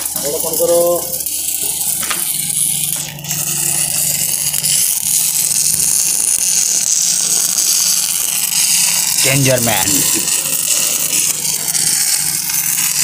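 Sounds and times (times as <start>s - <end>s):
welding arc crackling and hissing: 0.0s - 13.0s.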